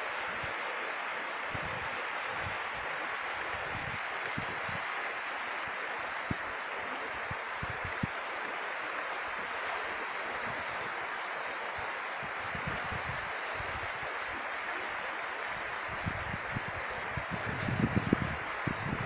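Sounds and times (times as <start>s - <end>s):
river rushing over stones: 0.0s - 19.0s.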